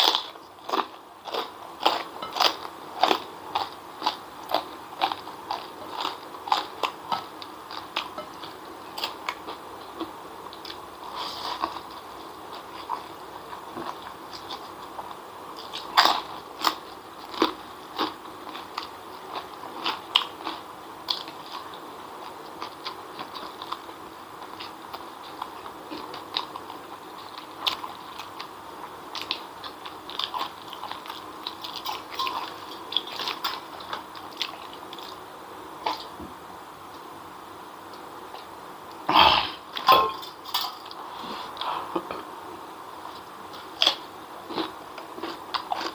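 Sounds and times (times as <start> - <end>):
wet chewing and crunching: 0.0 - 35.2, 43.0 - 45.9.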